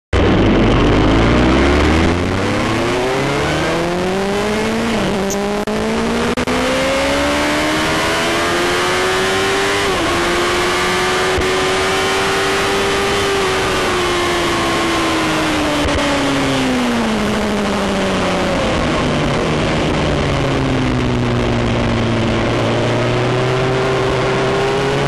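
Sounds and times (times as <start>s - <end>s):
motorcycle engine accelerating hard: 0.2s - 25.0s.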